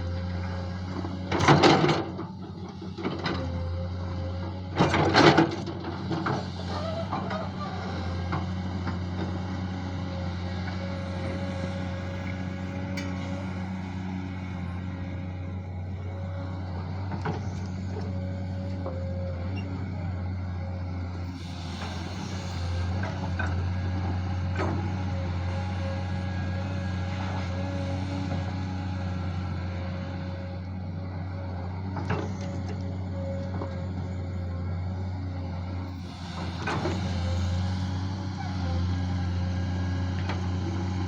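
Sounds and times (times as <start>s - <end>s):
digger diesel engine running: 0.0s - 41.0s.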